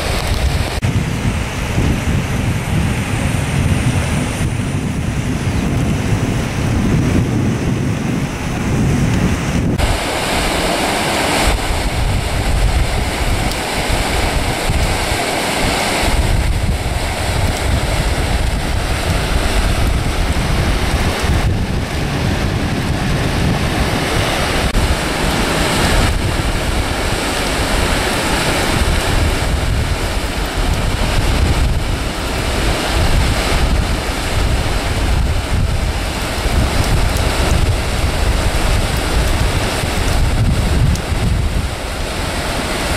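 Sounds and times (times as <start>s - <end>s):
floodwater rushing: 0.0s - 42.9s
wind buffeting microphone: 0.0s - 42.9s.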